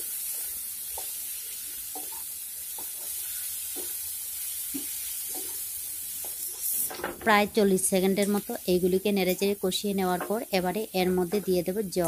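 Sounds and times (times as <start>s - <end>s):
lentils sizzling in oil: 0.0s - 12.0s.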